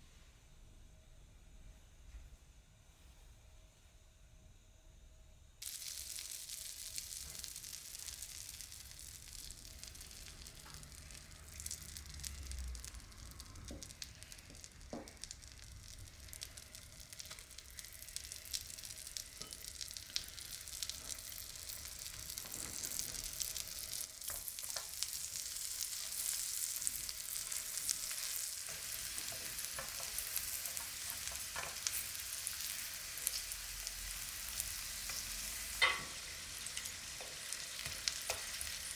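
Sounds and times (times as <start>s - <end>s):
food sizzling in a frying pan: 5.6s - 38.9s.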